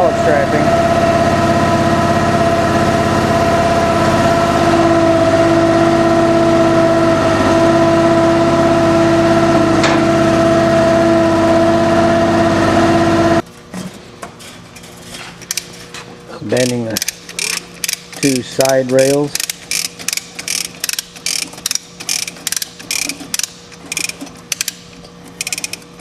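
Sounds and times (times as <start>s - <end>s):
gas engine running: 0.0s - 13.4s, 15.4s - 26.0s.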